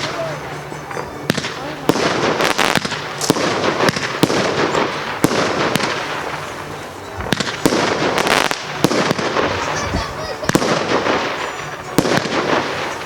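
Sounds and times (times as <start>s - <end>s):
firework bangs: 0.0s - 13.0s
firework crackling: 0.0s - 13.0s.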